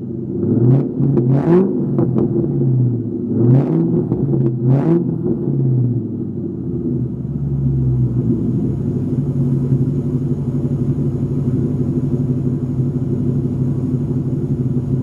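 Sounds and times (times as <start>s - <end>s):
car engine idling with throttle blips: 0.0s - 15.0s.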